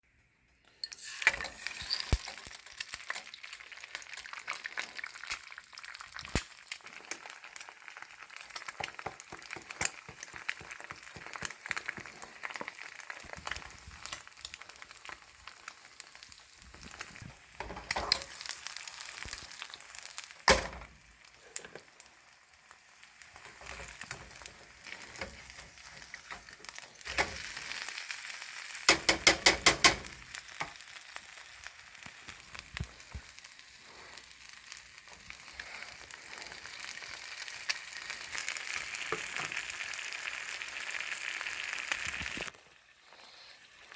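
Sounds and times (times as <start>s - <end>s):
food sizzling in a pan: 0.7s - 43.9s.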